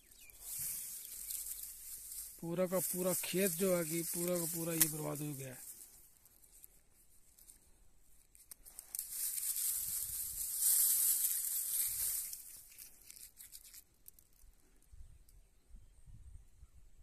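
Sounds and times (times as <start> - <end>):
dry stalks rustling and crackling: 0.0 - 15.4.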